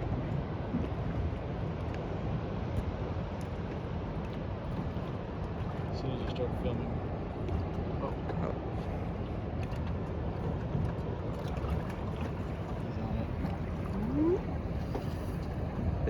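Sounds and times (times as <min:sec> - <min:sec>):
water noise: 0:00.0 - 0:16.0.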